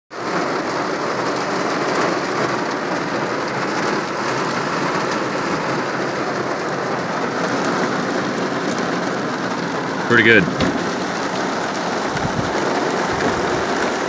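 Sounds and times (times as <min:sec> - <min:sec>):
heavy rain on car roof: 0:00.1 - 0:14.0.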